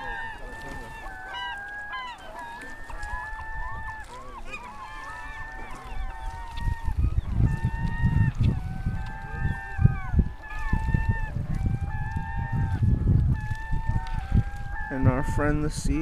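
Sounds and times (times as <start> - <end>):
gulls calling: 0.0 - 16.0
wind buffeting microphone: 0.0 - 16.0.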